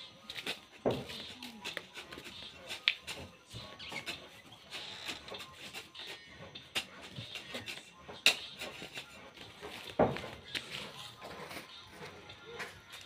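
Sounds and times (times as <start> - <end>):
shovel scraping sand and cement: 0.0 - 13.0.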